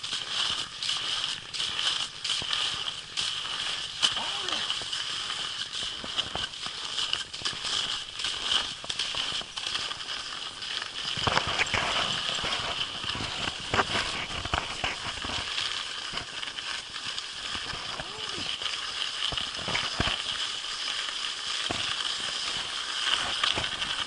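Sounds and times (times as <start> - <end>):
crunches on snow: 0.0 - 24.0
skis scraping over snow: 0.0 - 24.0.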